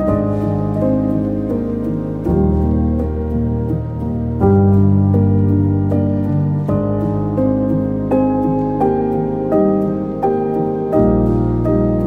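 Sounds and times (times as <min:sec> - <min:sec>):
soft pitched ambient notes: 0:00.0 - 0:12.0.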